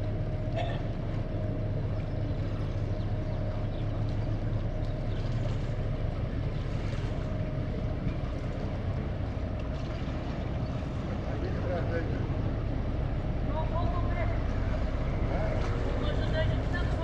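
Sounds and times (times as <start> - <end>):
ship diesel engine drone: 0.0 - 17.0.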